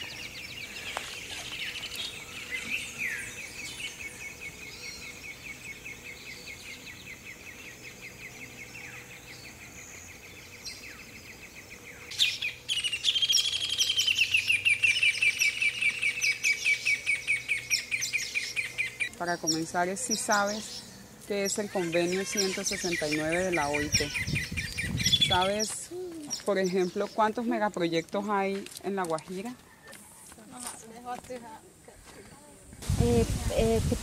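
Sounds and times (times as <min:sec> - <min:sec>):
birds chirping in trills: 0:00.0 - 0:31.1.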